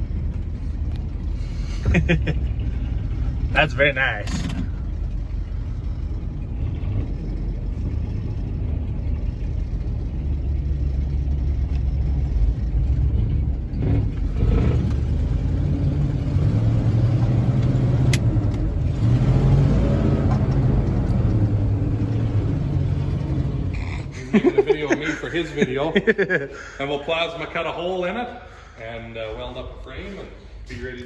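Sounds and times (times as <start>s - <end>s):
truck engine droning: 0.0s - 31.0s.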